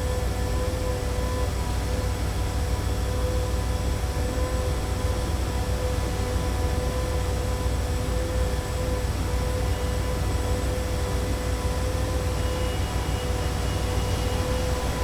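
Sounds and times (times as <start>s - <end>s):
constant machine hum: 0.0s - 15.0s
construction machinery: 0.0s - 15.0s.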